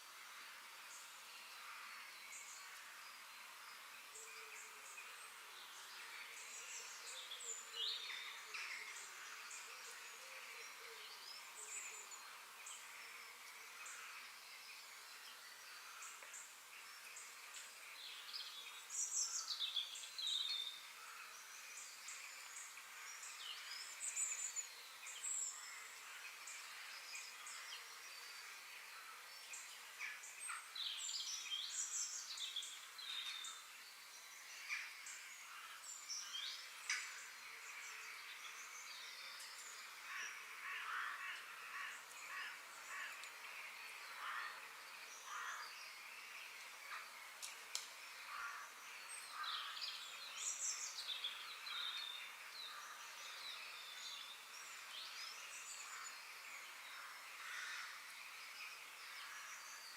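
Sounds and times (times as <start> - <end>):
steady high background hiss: 0.0 - 59.9
birds chirping and singing: 4.1 - 59.9.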